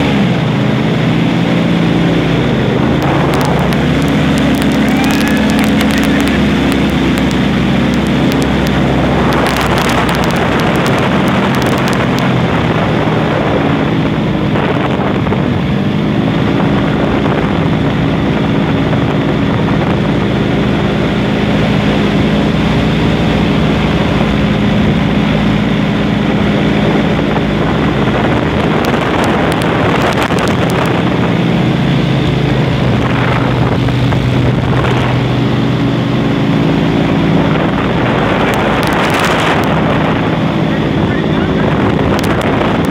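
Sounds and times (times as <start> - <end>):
airboat engine and propeller: 0.0 - 42.9
wind buffeting microphone: 0.0 - 42.9.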